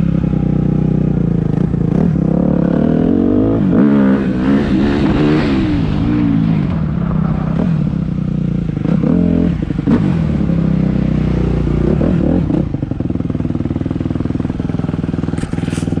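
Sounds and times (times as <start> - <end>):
dirt bike engine revving and idling: 0.0 - 16.0.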